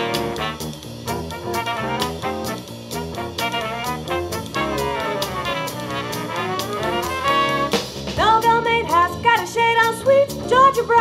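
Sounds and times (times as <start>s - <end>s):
swing jazz brass band: 0.0s - 11.0s.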